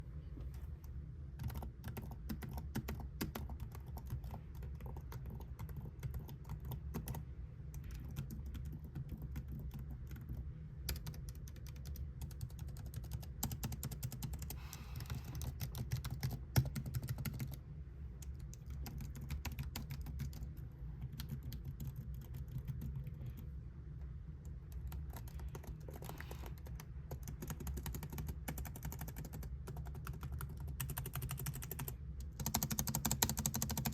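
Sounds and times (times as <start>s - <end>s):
steady low hum: 0.0s - 33.9s
laptop keyboard typing: 1.3s - 17.6s, 18.2s - 23.5s, 24.6s - 33.9s.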